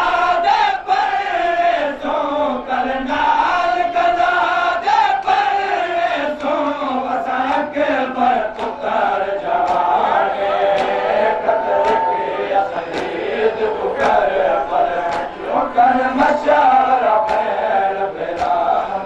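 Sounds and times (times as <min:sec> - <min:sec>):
large crowd: 0:00.0 - 0:19.0
men chanting a lament: 0:00.0 - 0:19.0.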